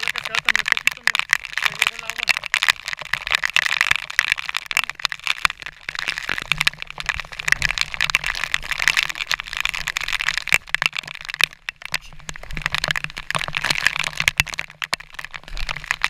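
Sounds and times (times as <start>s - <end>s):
rushing falling water: 0.0s - 16.0s
water spray crackling on camera housing: 0.0s - 16.0s.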